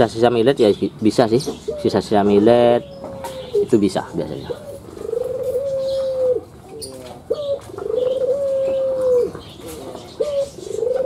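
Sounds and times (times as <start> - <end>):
dove cooing: 1.4 - 11.0.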